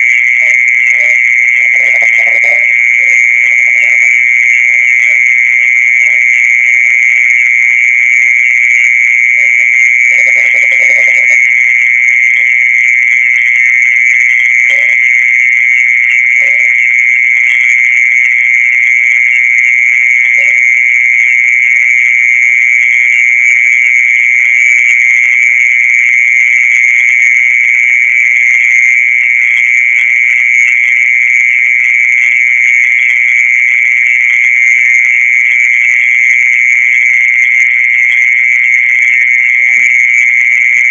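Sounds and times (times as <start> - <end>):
high-pitched insect trill: 0.0 - 40.9
low croaking calls: 0.0 - 40.9.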